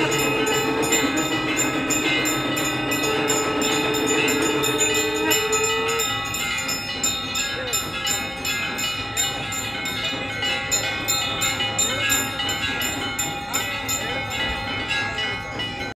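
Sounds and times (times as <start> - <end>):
temple bells ringing rapidly: 0.0 - 16.0.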